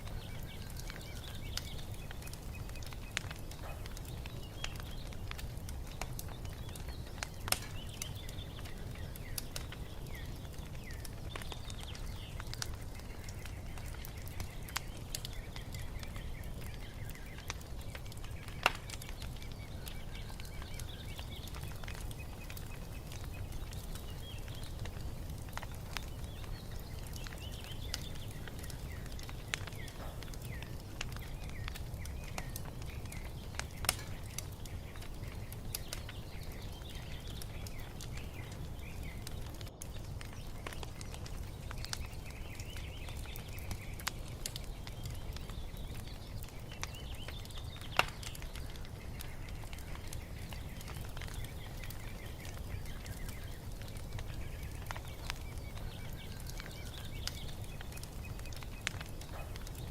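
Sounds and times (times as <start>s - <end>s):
low fire rumble: 0.0s - 59.9s
small birds chirping: 0.0s - 59.9s
wood fire crackling: 0.0s - 59.9s.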